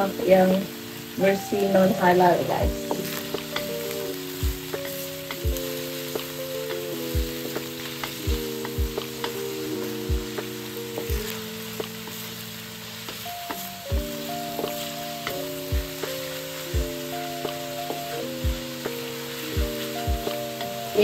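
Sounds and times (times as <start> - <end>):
lo-fi background music: 0.0 - 21.0
meat sizzling in hot oil: 0.0 - 21.0.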